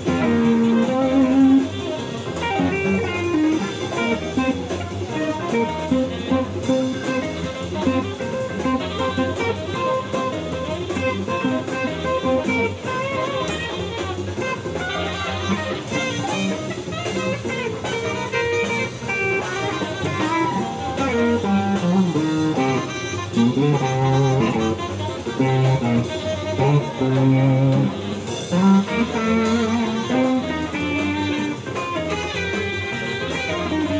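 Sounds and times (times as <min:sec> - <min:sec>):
electric guitar blues lead: 0:00.0 - 0:33.9.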